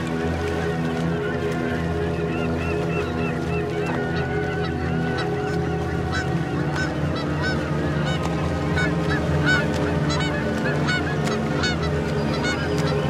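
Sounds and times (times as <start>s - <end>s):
geese calling: 1.2s - 13.0s.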